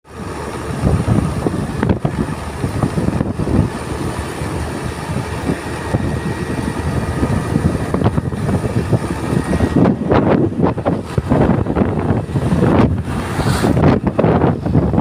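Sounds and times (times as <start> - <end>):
excavator engine rumbling: 0.0 - 15.0
wind gusting on microphone: 0.1 - 15.0.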